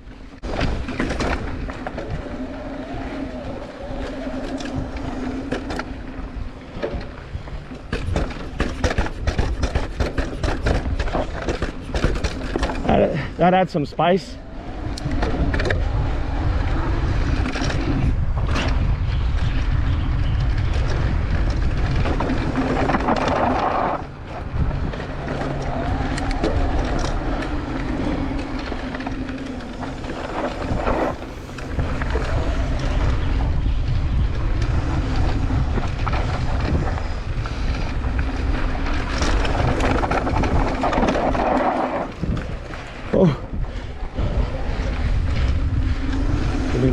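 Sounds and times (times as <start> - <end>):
bike tyre noise on dirt: 0.0 - 46.9
wind rumble on microphone: 0.0 - 46.9.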